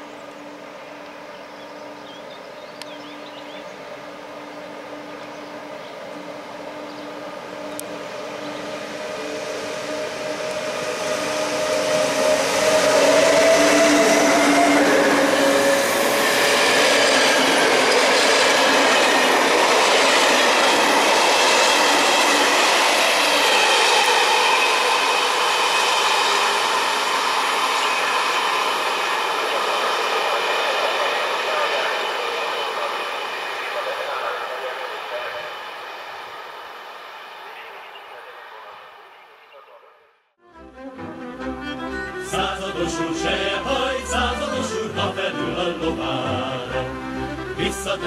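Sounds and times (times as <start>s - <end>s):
electric locomotive tone: 0.0s - 39.6s, 40.5s - 48.0s
train coaches rolling by: 0.0s - 39.7s, 41.0s - 48.0s.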